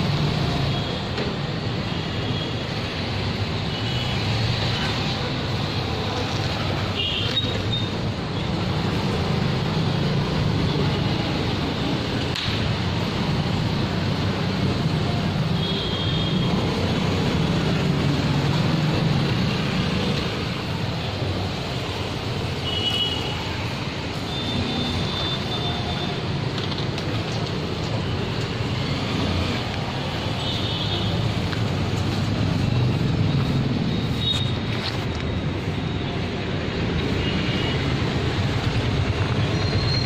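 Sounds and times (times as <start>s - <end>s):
street traffic noise: 0.0s - 40.0s.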